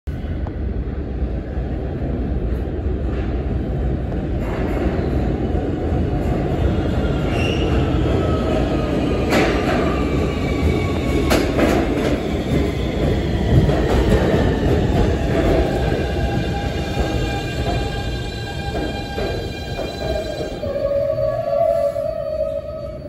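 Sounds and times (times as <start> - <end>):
subway train rumbling on track: 0.1 - 23.0.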